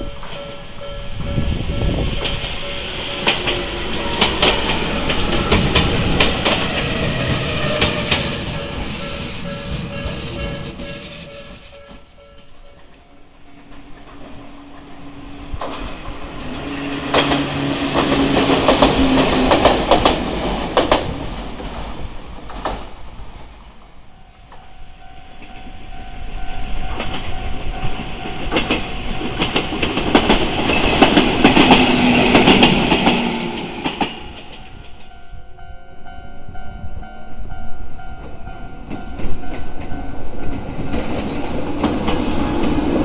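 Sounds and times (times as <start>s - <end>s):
crossing warning bell ringing: 0.0s - 15.6s, 24.0s - 43.0s
train wheels clacking: 0.0s - 22.9s, 24.4s - 36.5s, 37.7s - 43.0s.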